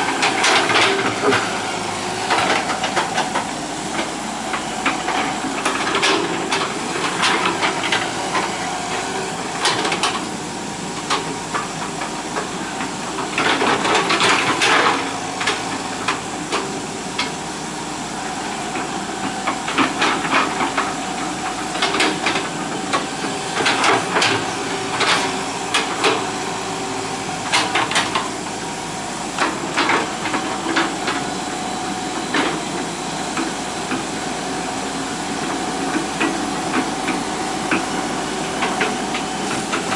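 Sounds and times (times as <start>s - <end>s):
excavator bucket clanking and scraping: 0.0s - 17.6s, 18.7s - 39.9s
excavator diesel engine running: 0.0s - 39.9s.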